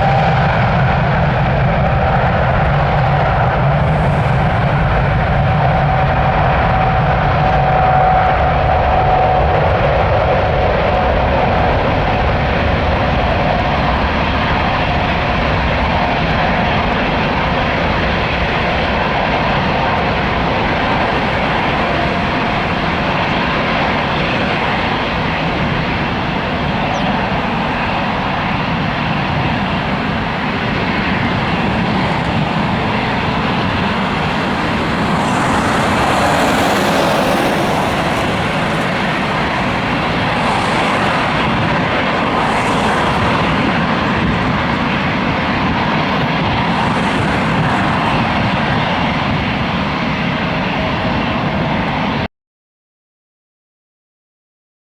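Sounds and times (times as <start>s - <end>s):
faint whine: 0.0s - 49.7s
jet engines rumbling: 0.0s - 52.3s.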